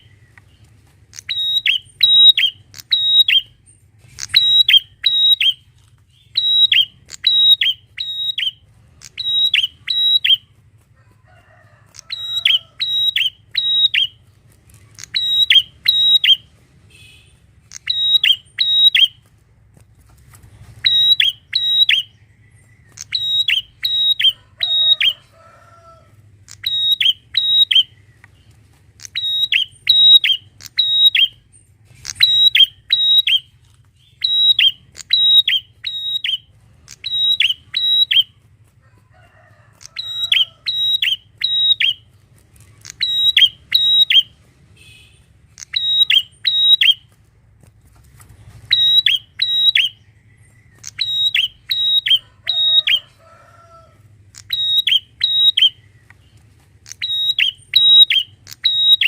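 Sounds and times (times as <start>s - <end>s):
bird calling high-pitched notes: 1.1s - 10.5s, 12.0s - 14.2s, 15.0s - 19.2s, 20.8s - 25.3s, 26.4s - 28.4s, 29.0s - 38.4s, 39.8s - 42.1s, 42.7s - 47.1s, 48.6s - 53.5s, 54.3s - 59.0s.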